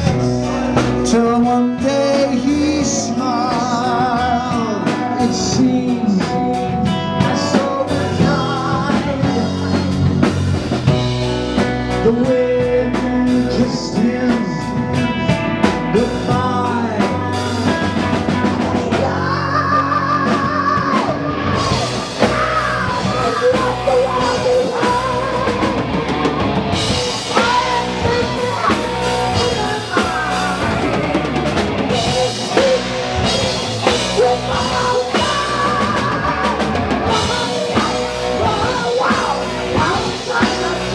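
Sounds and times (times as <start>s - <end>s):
distorted electric guitars: 0.0s - 40.9s
drum kit: 0.0s - 40.9s
man singing: 0.0s - 40.9s.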